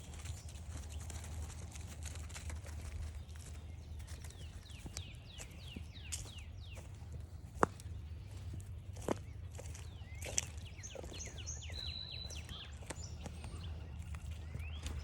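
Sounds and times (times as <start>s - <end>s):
footsteps on a forest trail: 0.0s - 15.0s
bird singing: 2.9s - 15.0s.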